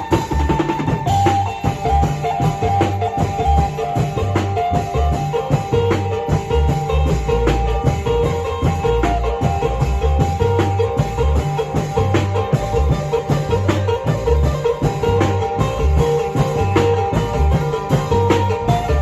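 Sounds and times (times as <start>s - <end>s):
long drum percussion: 0.0s - 19.0s
low bass notes: 1.1s - 19.0s.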